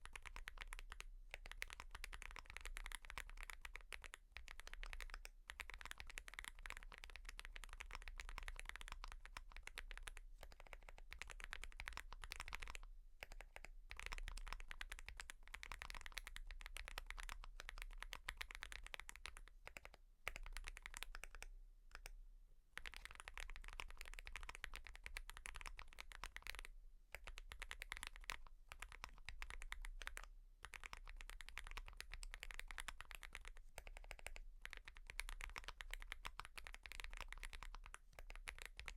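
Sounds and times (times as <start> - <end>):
mechanical keyboard typing: 0.0 - 22.1, 22.8 - 38.9.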